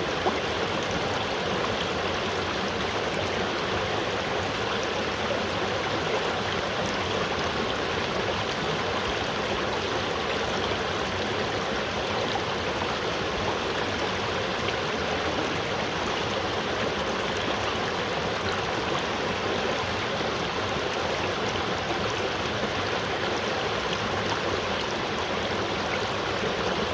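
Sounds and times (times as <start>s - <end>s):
river water flowing: 0.0s - 26.9s.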